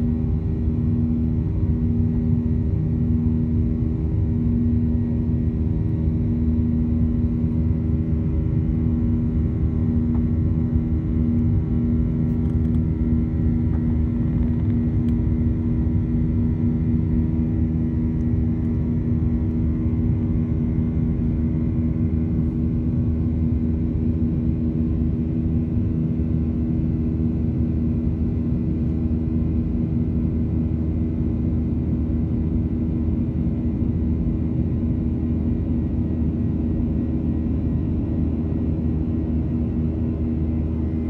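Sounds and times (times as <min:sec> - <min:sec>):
jet engine drone in cabin: 0:00.0 - 0:41.0.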